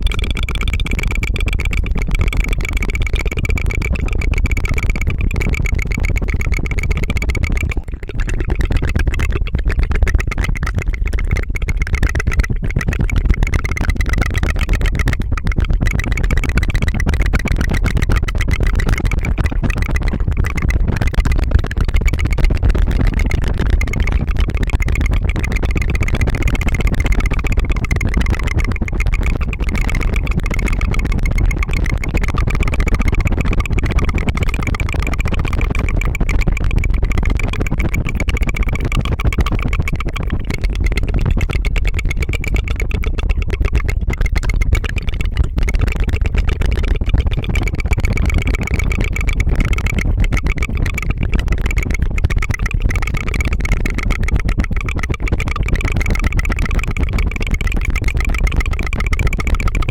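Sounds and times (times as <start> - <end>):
tongue fluttering trill: 0.0 - 59.9.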